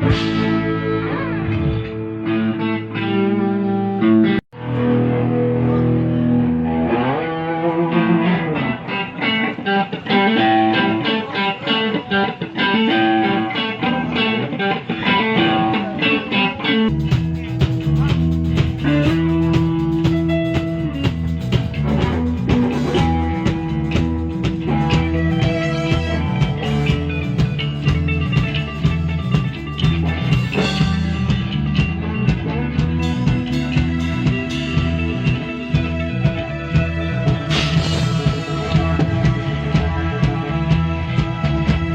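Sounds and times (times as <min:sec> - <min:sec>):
bass and drums: 0:00.0 - 0:11.1, 0:16.9 - 0:41.9
electric guitar riff: 0:00.0 - 0:41.9.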